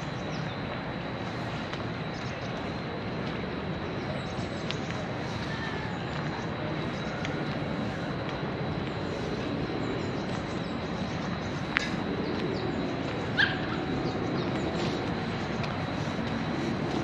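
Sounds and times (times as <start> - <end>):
distant traffic: 0.0 - 17.0
people in a park: 0.0 - 17.0.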